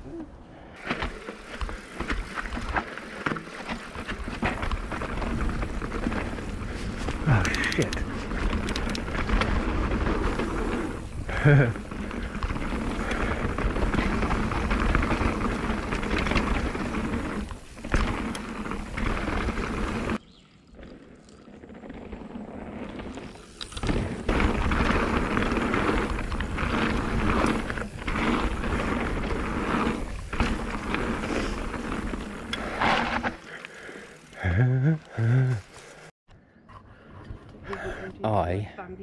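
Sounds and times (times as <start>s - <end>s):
bike rider coming down trail: 0.6s - 36.1s
bike rattling over bumps: 0.8s - 20.2s, 20.9s - 36.1s
tyres rolling over dirt and stones: 0.8s - 36.1s.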